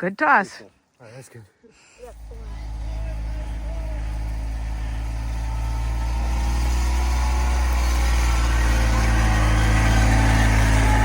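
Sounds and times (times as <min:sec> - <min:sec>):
vehicle engine idling: 0:02.0 - 0:11.0.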